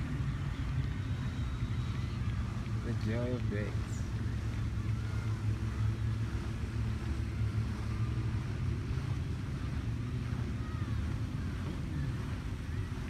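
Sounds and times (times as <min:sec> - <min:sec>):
gulls calling: 0:00.0 - 0:13.0
steady low rumble: 0:00.0 - 0:13.0.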